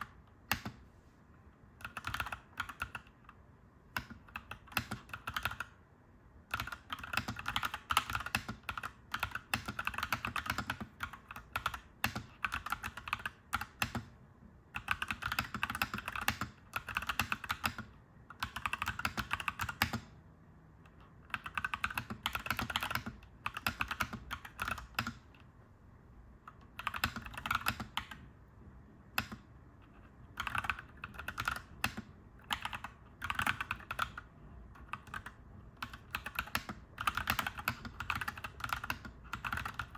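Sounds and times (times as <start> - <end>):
mechanical keyboard typing: 0.0 - 0.8, 1.8 - 5.8, 6.4 - 20.2, 20.9 - 25.5, 26.4 - 28.3, 29.1 - 39.9
faint low steady hum: 0.0 - 39.9.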